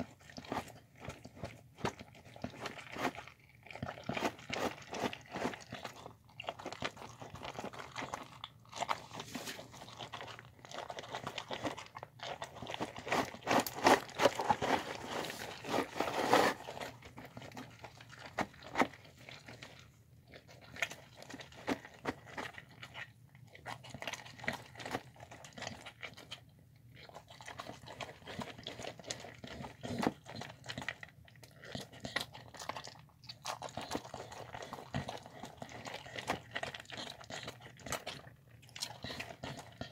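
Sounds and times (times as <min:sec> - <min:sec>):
dog chewing food: 0:00.0 - 0:39.9.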